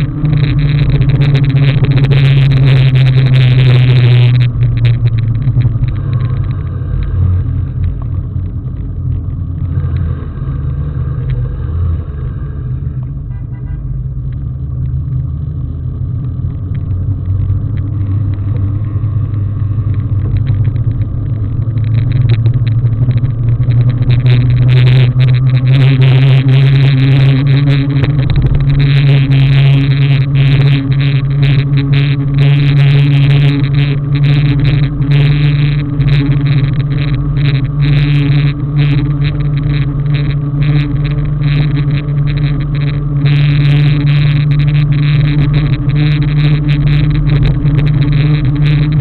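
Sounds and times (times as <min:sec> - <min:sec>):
vehicle travel rumble: 0:00.0 - 0:49.0.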